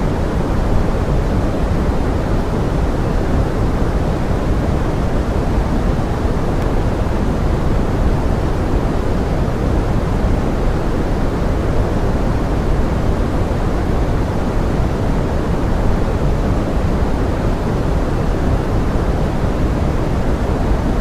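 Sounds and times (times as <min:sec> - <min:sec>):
pink noise hiss: 0:00.0 - 0:21.0.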